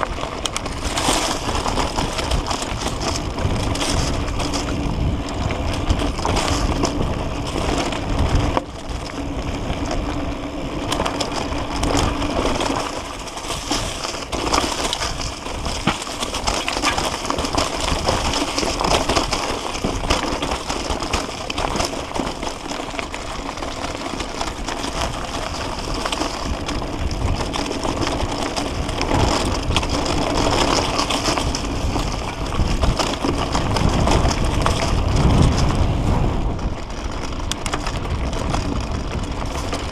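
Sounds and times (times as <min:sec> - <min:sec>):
bike rattling over bumps: 0:00.0 - 0:39.9
bike tyres crunching over gravel: 0:00.0 - 0:39.9
wind rumble on microphone: 0:00.0 - 0:39.9.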